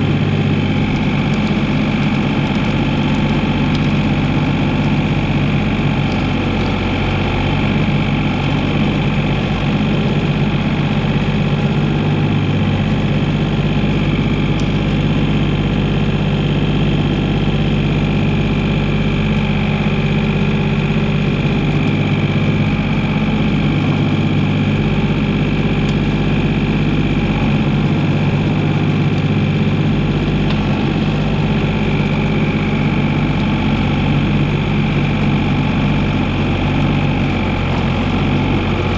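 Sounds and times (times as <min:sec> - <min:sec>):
mini excavator diesel engine: 0:00.0 - 0:38.9.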